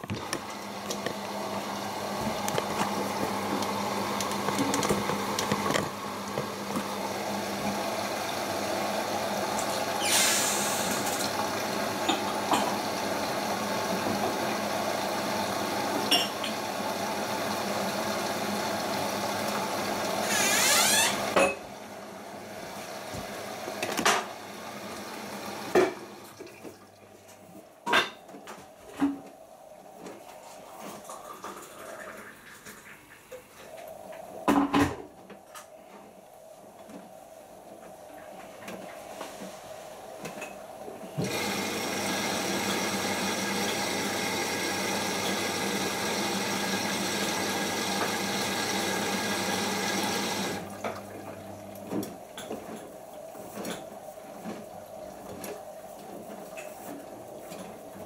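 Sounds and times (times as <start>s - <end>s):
washing machine filling with water: 0.0s - 27.8s, 29.8s - 33.6s, 39.5s - 58.0s.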